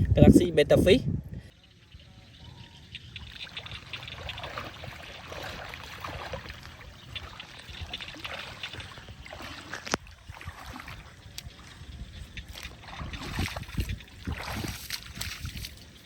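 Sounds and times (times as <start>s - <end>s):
shallow water sloshing and splashing: 2.3s - 16.0s.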